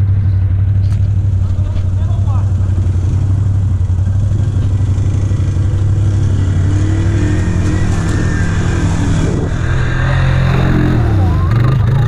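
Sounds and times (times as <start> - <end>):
atv engines droning: 0.0 - 12.0
engine revving: 0.0 - 12.0.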